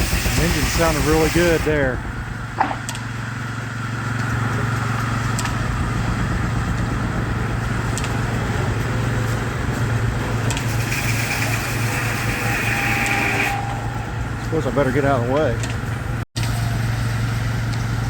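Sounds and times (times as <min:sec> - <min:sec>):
steam engine running: 0:00.0 - 0:02.6, 0:03.2 - 0:18.0
high steady whine: 0:00.0 - 0:18.0.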